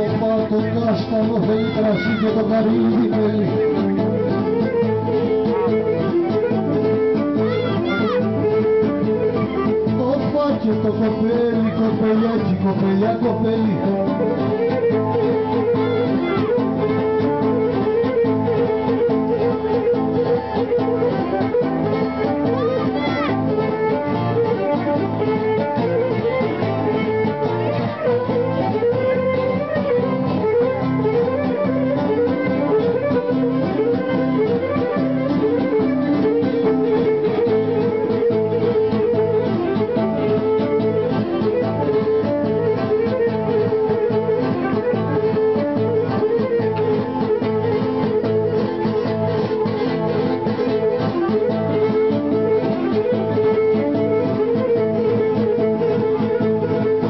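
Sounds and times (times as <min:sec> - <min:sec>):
bowed string melody: 0:00.0 - 0:57.0
plucked lute rhythm: 0:00.0 - 0:57.0.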